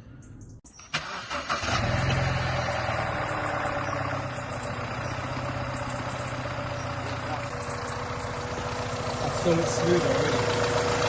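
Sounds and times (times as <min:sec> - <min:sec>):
car engine idling: 0:00.0 - 0:11.0
car engine cranking and starting: 0:00.6 - 0:11.0.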